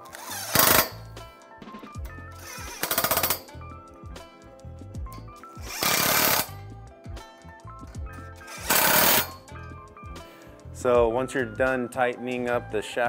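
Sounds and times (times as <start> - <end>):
background music with beat: 0.0 - 13.0.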